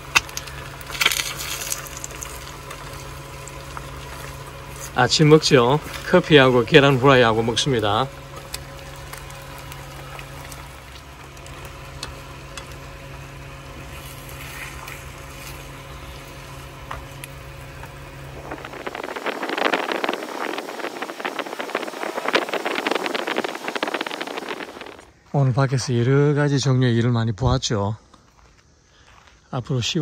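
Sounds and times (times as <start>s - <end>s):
eggs sizzling in a pan: 0.0s - 25.0s
low mechanical hum: 0.0s - 30.0s.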